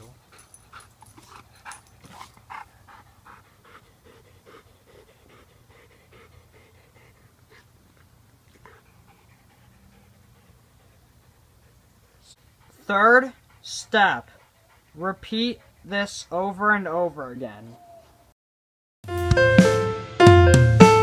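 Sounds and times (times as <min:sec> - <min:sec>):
dog panting: 0:00.0 - 0:18.2.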